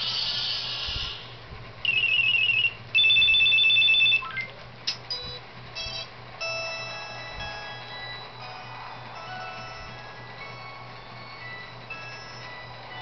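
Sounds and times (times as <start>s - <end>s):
electronic phone ring: 1.9s - 4.5s, 5.1s - 13.0s
warbling ringtone trill: 1.9s - 4.5s, 5.1s - 13.0s
beeping melody: 1.9s - 13.0s.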